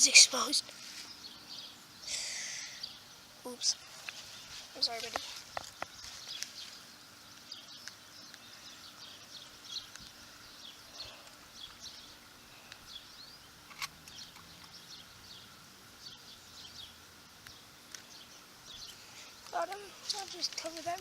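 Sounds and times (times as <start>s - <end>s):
outdoor hiss: 0.0s - 21.0s
small birds chirping: 0.0s - 21.0s.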